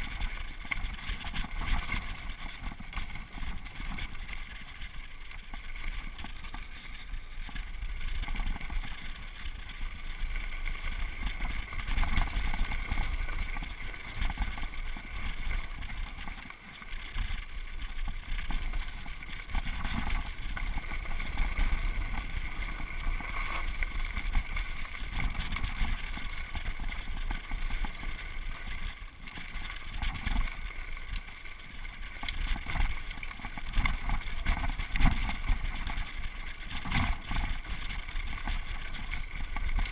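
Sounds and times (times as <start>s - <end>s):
bike rattling and knocking: 0.0s - 39.9s.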